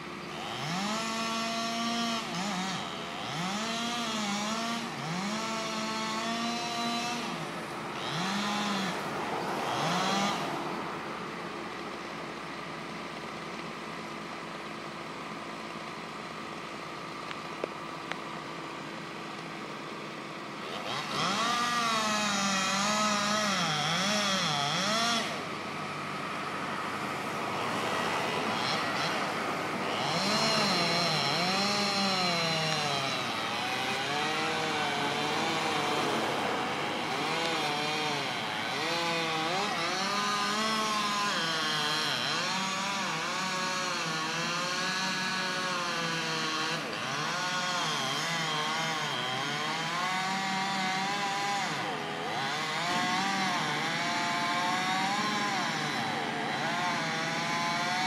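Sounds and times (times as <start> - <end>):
chainsaw cutting wood: 0.0 - 58.0
engine hum: 0.0 - 58.0.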